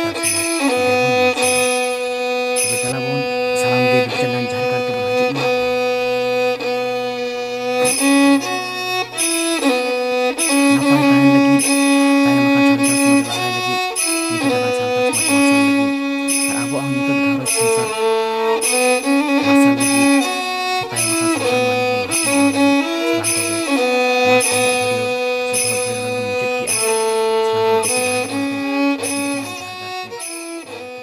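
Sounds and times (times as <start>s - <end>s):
instrumental background music: 0.0s - 31.0s.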